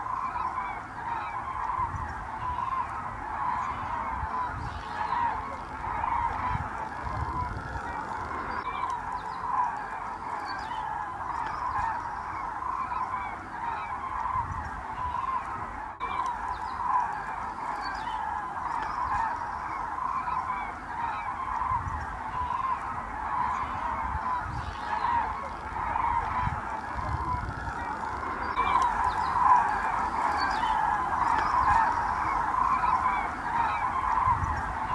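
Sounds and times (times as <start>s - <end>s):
flock of cranes calling: 0.0s - 34.9s.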